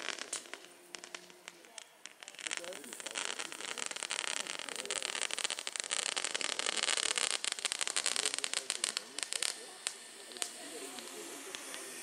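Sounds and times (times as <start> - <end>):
crackling pyrotechnics: 0.0 - 12.0.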